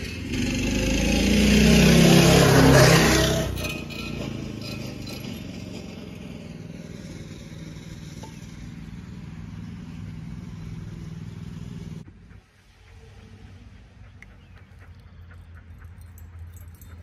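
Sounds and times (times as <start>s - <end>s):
vehicle passing loudly: 0.0s - 14.1s
vehicle engine humming: 0.0s - 17.0s.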